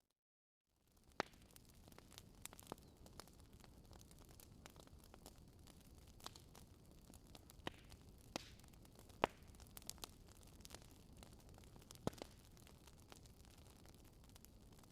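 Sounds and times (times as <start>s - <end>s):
wood fire crackling and popping: 0.8s - 14.9s.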